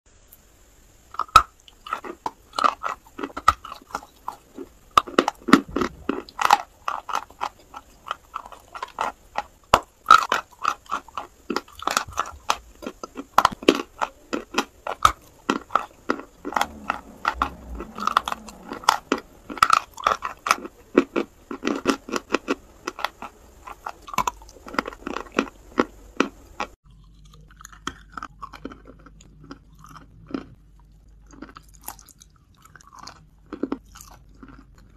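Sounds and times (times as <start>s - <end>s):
chewing crunchy chalk: 1.2s - 34.9s.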